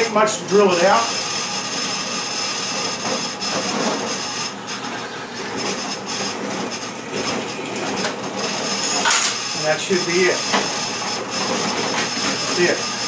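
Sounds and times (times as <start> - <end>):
drill press cutting metal: 0.0 - 13.0.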